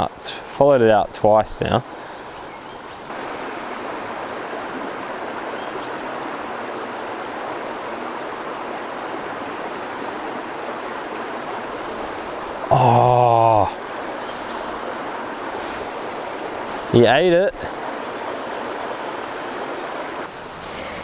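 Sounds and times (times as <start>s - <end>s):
stream rushing: 0.0s - 21.0s.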